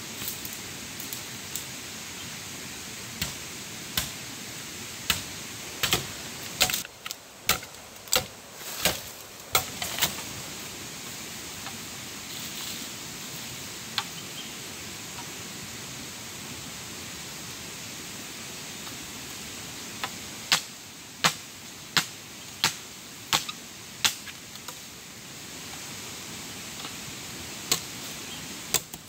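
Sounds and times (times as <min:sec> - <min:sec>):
steady rushing hiss: 0:00.0 - 0:29.0.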